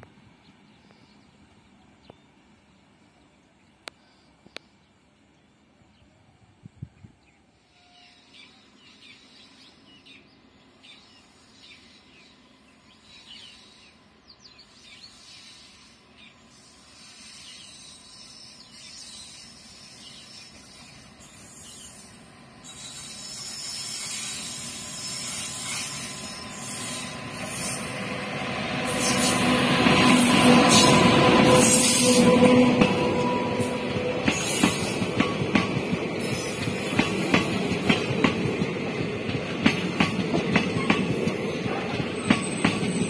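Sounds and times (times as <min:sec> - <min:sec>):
train rumble and rail hiss: 0:00.0 - 0:43.0.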